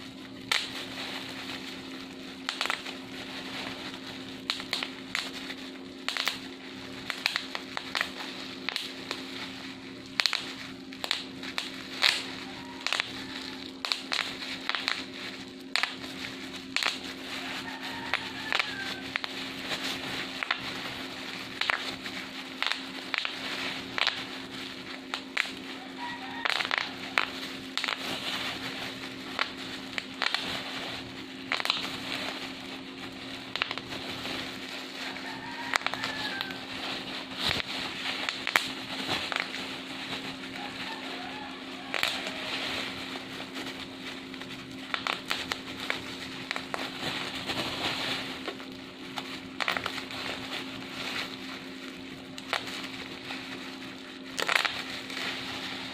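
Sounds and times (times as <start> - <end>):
bubble wrap crackling: 0.0 - 55.9
bubble wrap popping: 0.0 - 55.9.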